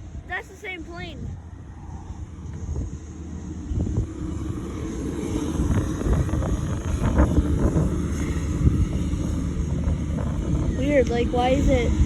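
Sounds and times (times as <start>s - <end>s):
airplane engine rumble: 0.0s - 12.0s
wind buffeting microphone: 0.0s - 12.0s.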